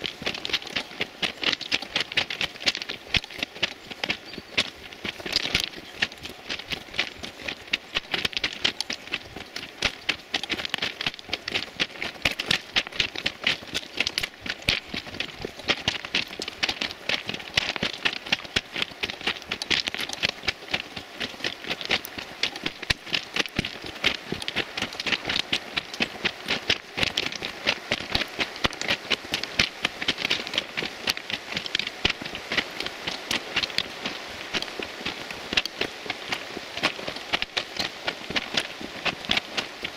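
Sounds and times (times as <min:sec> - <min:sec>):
footsteps crunching on gravel: 0:00.0 - 0:39.9.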